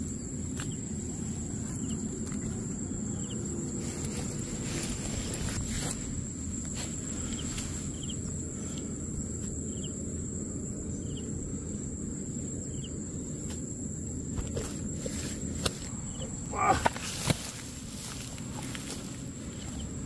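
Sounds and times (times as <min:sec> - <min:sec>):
cricket-like insect trill: 0:00.0 - 0:20.0
low outdoor rumble: 0:00.0 - 0:20.0
soft insect chirps: 0:00.0 - 0:20.0.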